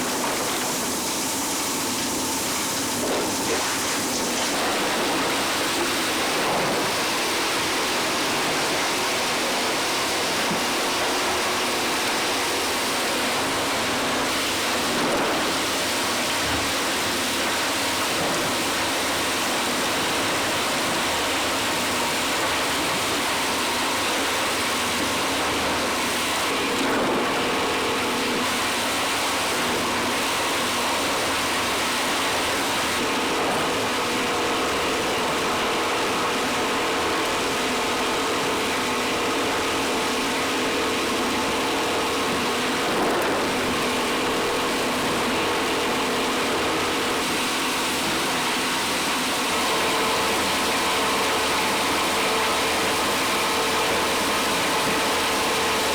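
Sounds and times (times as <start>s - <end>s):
constant machine hum: 0.0s - 55.9s.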